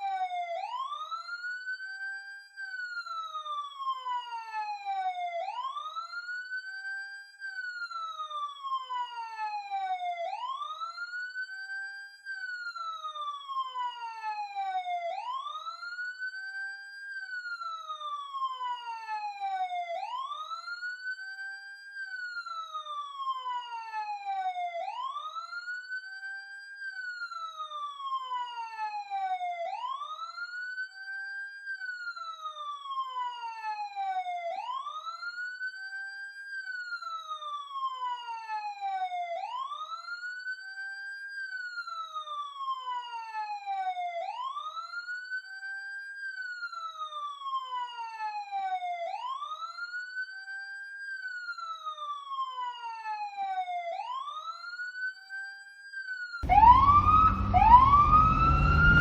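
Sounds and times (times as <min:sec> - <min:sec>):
police siren wailing: 0:00.0 - 0:59.0.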